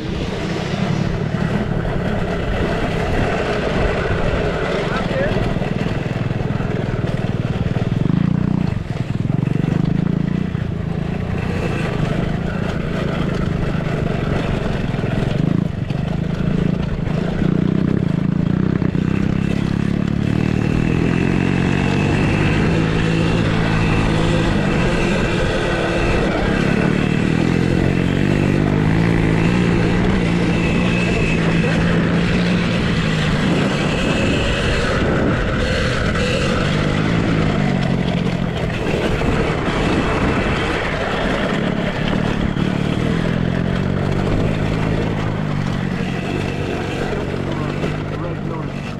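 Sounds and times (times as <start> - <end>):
off-road motorcycles revving: 0.0 - 48.9
wind: 0.0 - 48.9.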